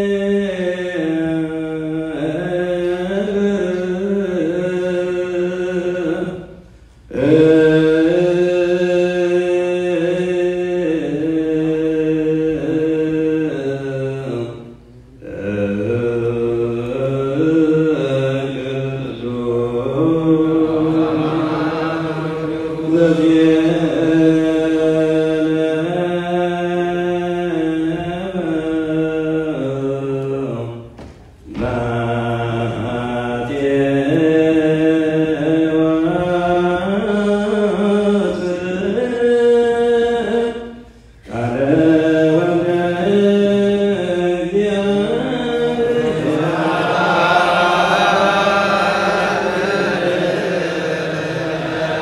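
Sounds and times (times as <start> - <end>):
male voices chanting: 7.1 - 52.0.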